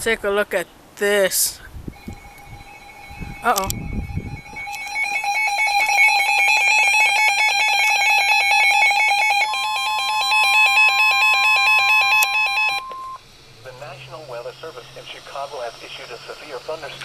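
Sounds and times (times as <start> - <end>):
warbling digital data tones: 1.9 - 17.0
steady alert tone: 2.0 - 15.9.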